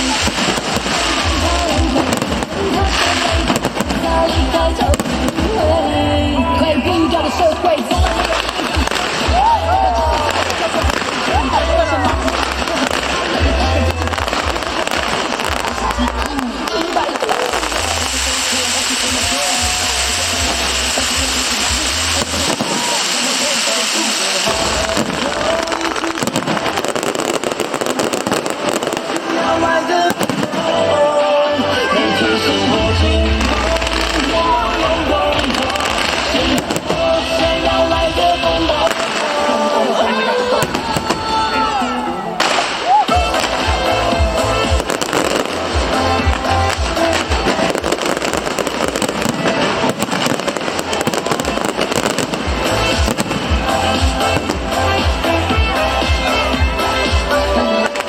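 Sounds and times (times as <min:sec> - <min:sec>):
fireworks bursting and crackling: 0:00.0 - 0:58.0
music: 0:00.0 - 0:58.0
voices: 0:00.0 - 0:58.0.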